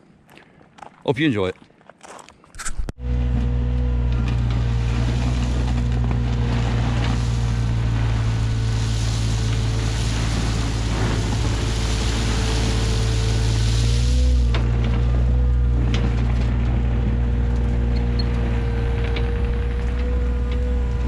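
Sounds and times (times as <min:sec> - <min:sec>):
excavator diesel engine running: 0:03.0 - 0:21.0.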